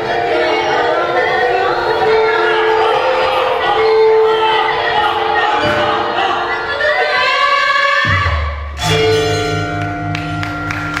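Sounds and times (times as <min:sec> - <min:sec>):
held chord of steady tones: 0:00.0 - 0:09.0.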